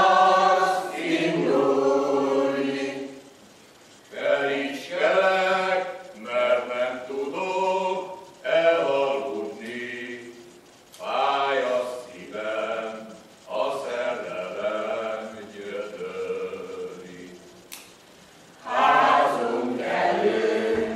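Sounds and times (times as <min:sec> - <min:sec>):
mixed choir singing unaccompanied: 0:00.0 - 0:03.4, 0:04.1 - 0:17.5, 0:18.5 - 0:20.9.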